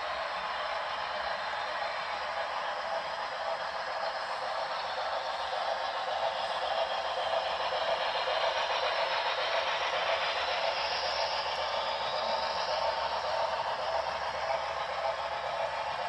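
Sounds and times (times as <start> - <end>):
model train wheels rolling on rails: 0.0 - 16.0.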